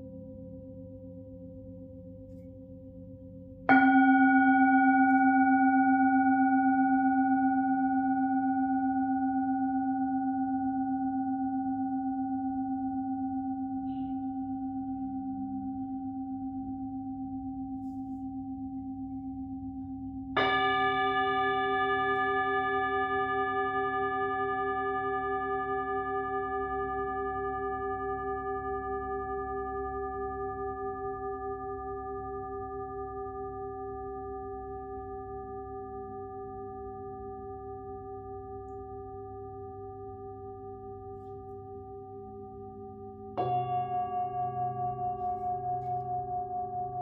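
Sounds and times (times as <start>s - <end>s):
singing bowl ringing: 0.0s - 47.0s.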